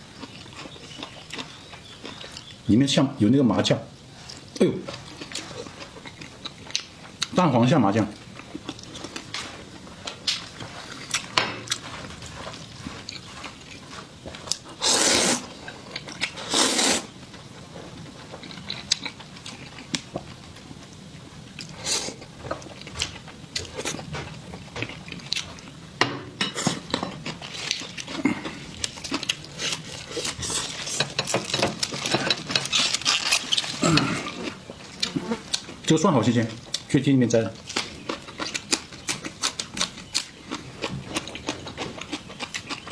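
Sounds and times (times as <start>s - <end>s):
biting and chewing: 0.0s - 2.6s, 4.2s - 7.4s, 8.1s - 25.9s, 26.6s - 42.9s.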